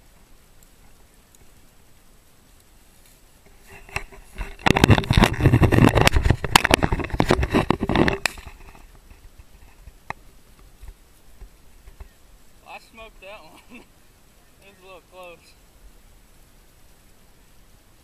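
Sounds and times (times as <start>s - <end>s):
dry grass rustling against camera: 0.0s - 18.0s.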